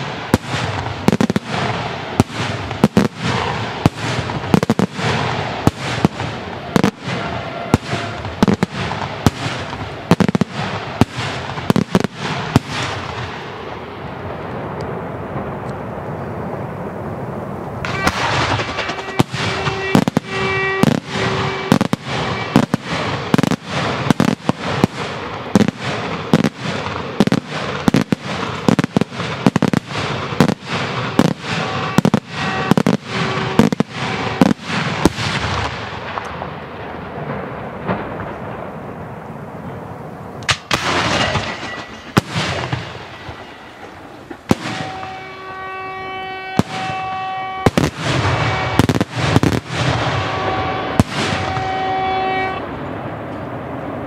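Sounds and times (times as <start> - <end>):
echoing rumble: 0.0 - 54.0
fireworks banging: 0.0 - 54.0.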